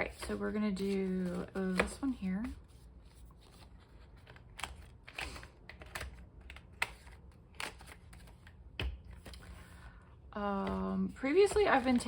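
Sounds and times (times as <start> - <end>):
paper pages rustling: 0.0 - 9.9, 11.4 - 12.0.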